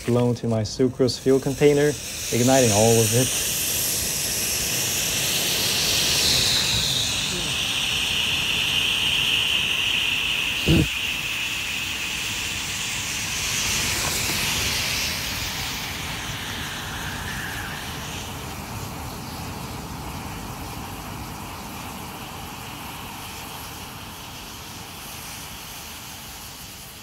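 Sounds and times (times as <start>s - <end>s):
rushing flame: 0.0s - 27.0s.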